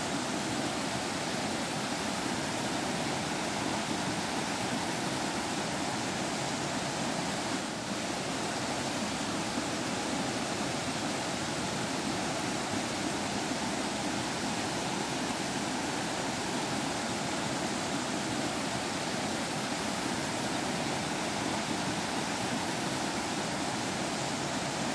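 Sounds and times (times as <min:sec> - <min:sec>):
stream water babbling: 0:00.0 - 0:24.9.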